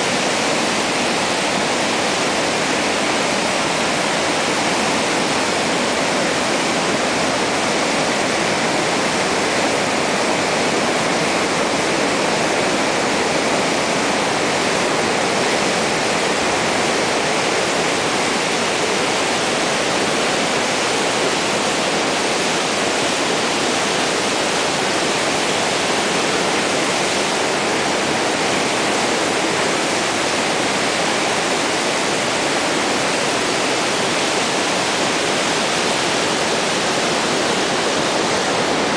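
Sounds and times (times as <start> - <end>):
river rushing through rapids: 0.0 - 38.9.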